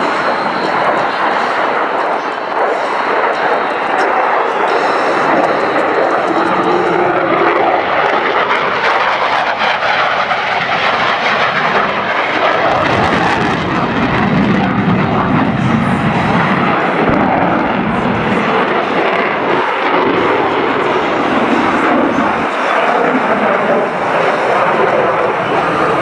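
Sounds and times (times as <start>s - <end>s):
jet aircraft engine roar: 0.0s - 26.0s.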